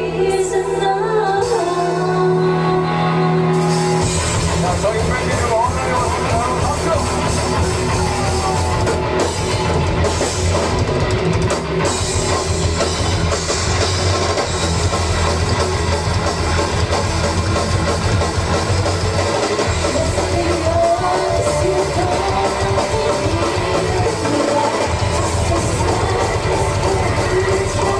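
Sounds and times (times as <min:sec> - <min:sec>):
live rock band playing: 0:00.0 - 0:27.9.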